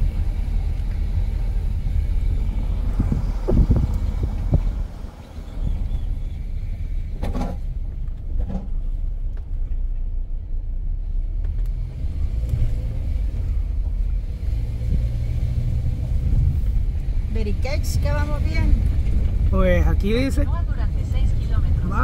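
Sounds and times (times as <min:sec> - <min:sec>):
car interior engine and road rumble: 0:00.0 - 0:22.0.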